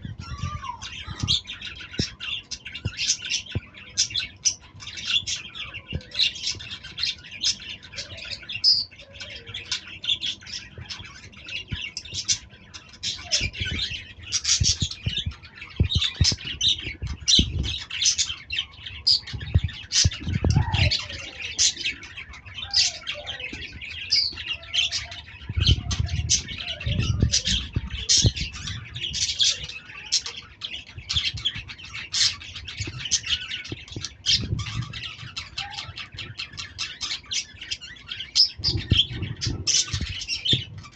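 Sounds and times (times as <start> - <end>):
lovebirds chattering: 0.0 - 40.9.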